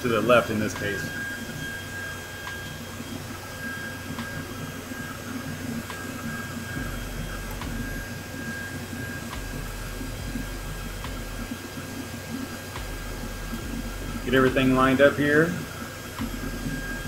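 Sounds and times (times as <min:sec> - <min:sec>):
computer fans whirring: 0:00.0 - 0:17.0.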